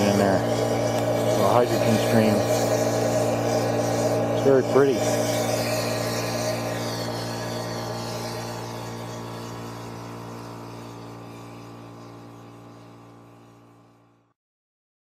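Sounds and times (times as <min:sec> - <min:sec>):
air compressor running: 0:00.0 - 0:14.3.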